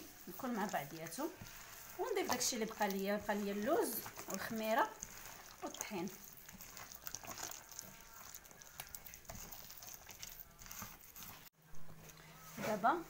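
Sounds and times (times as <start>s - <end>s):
hand squishing eggs in bowl: 0.0s - 12.9s.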